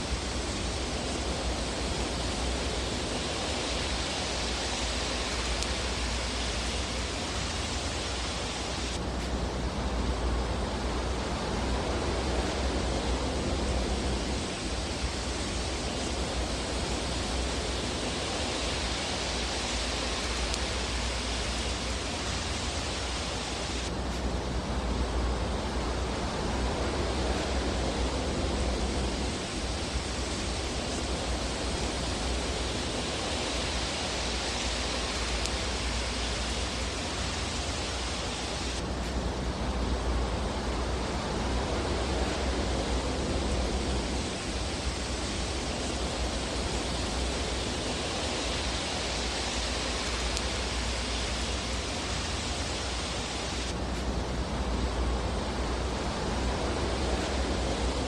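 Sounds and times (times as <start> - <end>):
fireplace fire rushing hiss: 0.0 - 58.0.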